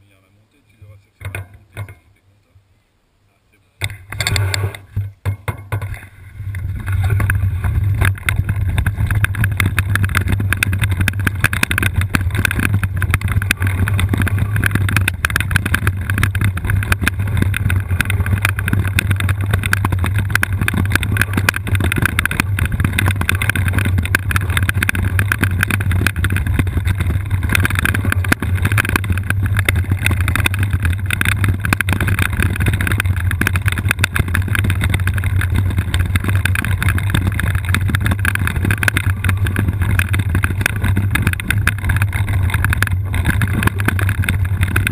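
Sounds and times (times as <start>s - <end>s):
wheelchair rolling on rough trail: 3.8s - 44.9s.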